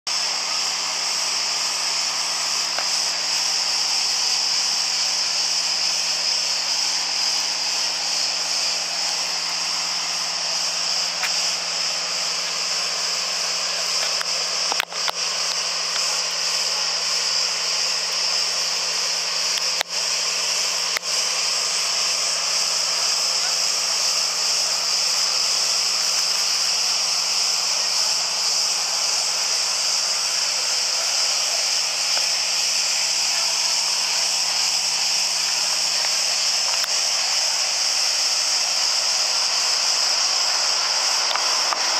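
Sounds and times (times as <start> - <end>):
cicadas singing: 0.1 - 41.9.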